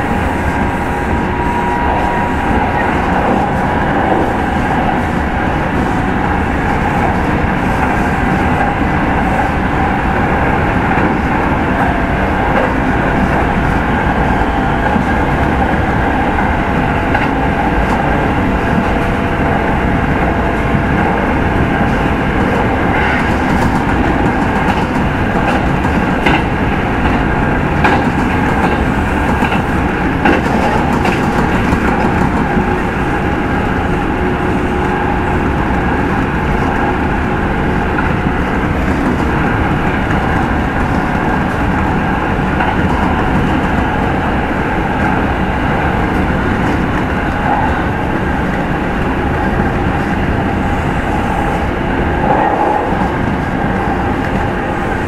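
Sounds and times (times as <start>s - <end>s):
train motor and wheel noise: 0.0s - 55.0s.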